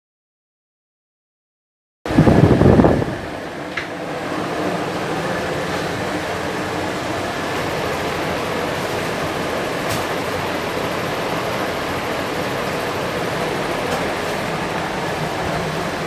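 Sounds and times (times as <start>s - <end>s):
air conditioner fan hiss: 2.1s - 16.0s.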